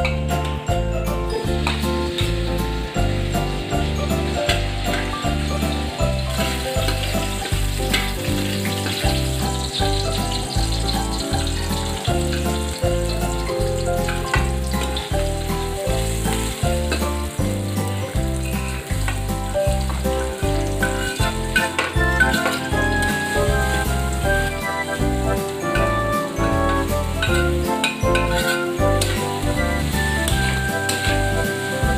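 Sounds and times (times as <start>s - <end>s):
background music with bass beat: 0.0s - 31.9s
food sizzling in hot oil: 1.3s - 31.9s.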